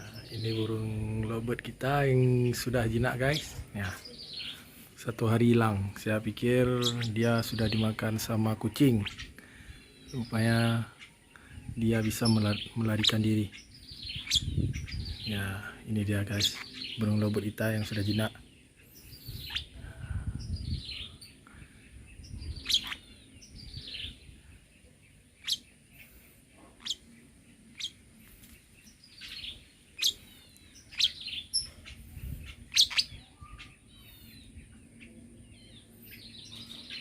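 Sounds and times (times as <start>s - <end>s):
lovebird chirping: 0.0s - 15.4s, 16.1s - 37.0s.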